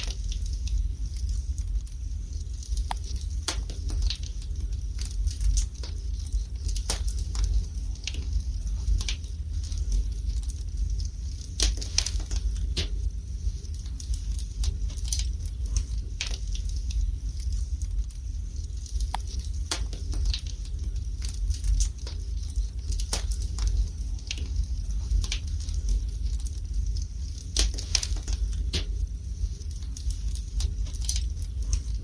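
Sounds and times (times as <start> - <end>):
low rumble: 0.0 - 32.0
wood fire crackling and popping: 0.0 - 32.0.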